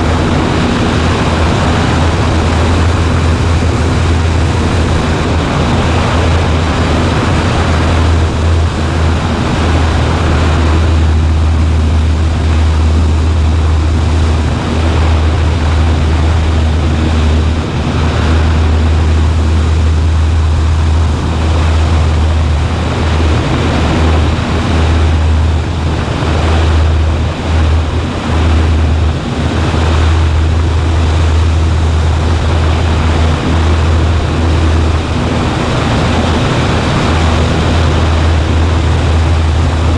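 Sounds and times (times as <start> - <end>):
propeller plane engine droning: 0.0 - 39.9
wind rushing: 0.0 - 39.9.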